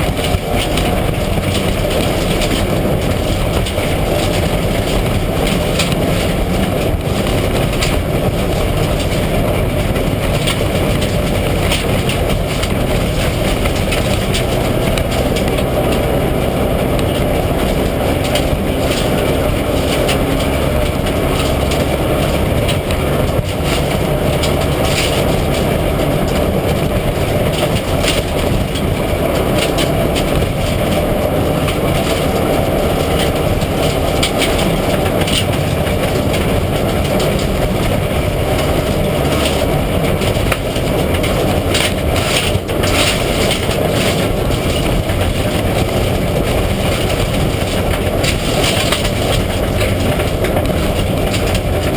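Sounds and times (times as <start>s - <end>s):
rally car engine running hard: 0.0s - 51.9s.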